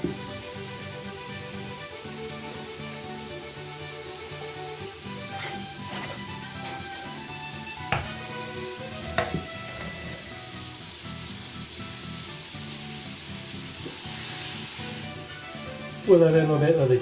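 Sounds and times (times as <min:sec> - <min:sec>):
mushrooms sizzling in a pan: 0:00.0 - 0:17.0.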